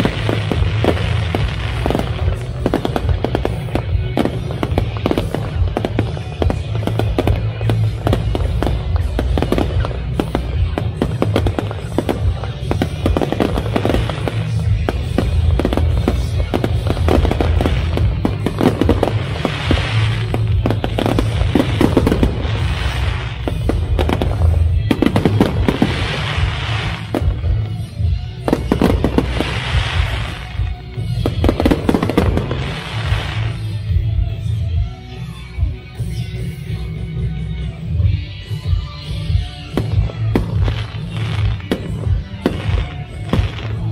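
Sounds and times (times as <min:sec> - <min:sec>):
fireworks bangs and crackles: 0:00.0 - 0:43.9
fireworks hissing bursts: 0:00.0 - 0:43.9
loud music: 0:00.0 - 0:43.9.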